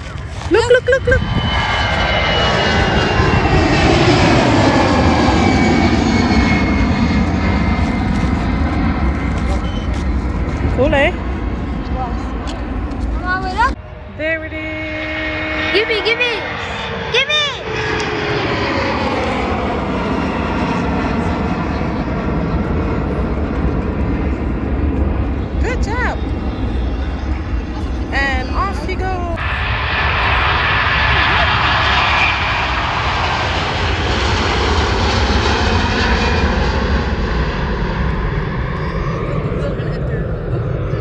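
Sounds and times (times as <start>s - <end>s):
airplane engine roar: 0.0s - 41.0s.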